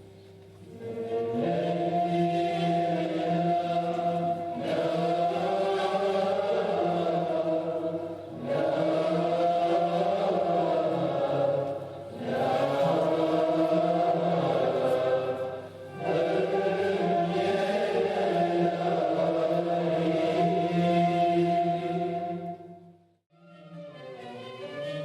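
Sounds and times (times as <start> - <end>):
voices singing together: 0.7 - 22.8.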